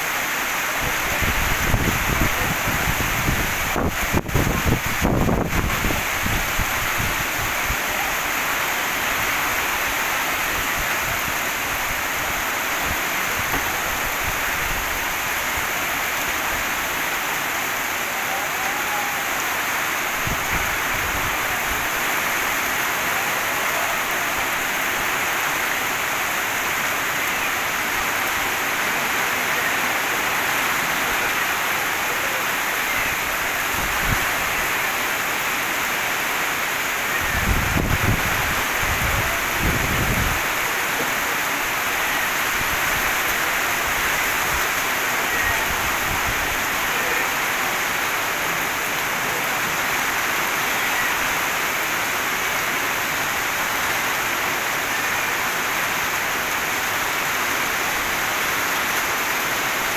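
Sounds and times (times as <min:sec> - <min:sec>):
heavy rain on pavement: 0:00.0 - 0:59.9.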